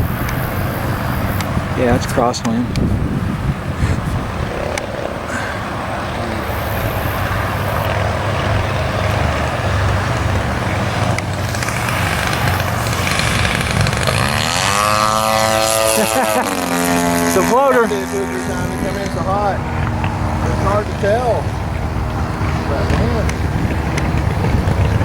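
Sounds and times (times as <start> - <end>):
model plane engine running: 0.0 - 25.0.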